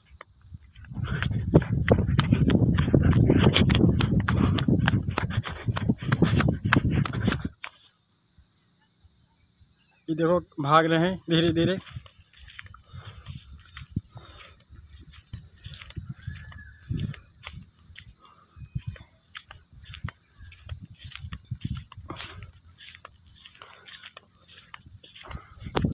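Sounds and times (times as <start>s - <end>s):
footsteps in dry stubble: 0.0s - 8.0s, 10.6s - 25.9s
insect chorus: 0.0s - 25.9s.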